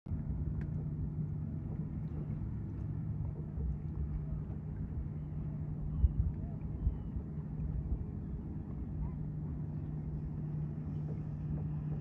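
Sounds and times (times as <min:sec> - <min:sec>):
motorboat engine rumbling: 0:00.0 - 0:12.0.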